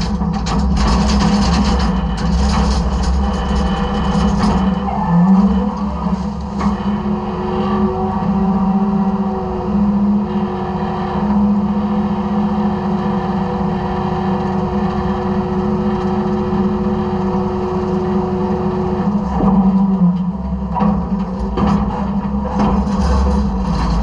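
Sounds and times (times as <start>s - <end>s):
garbage truck engine drone: 0.0s - 24.0s
hydraulic whine: 0.0s - 24.0s.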